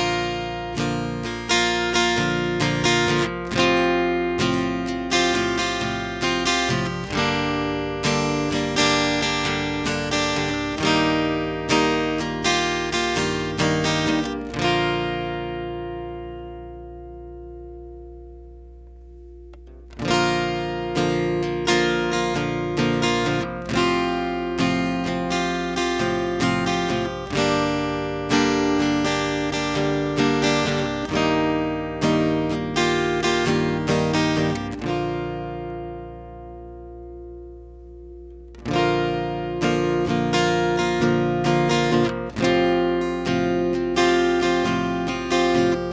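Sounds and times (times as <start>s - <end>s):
acoustic guitar strumming chords: 0.0s - 45.9s.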